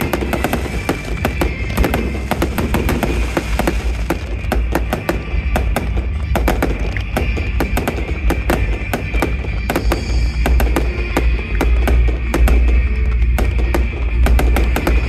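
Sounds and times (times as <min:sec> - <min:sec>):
fireworks cracking and banging: 0:00.0 - 0:15.0
music playing: 0:00.0 - 0:15.0.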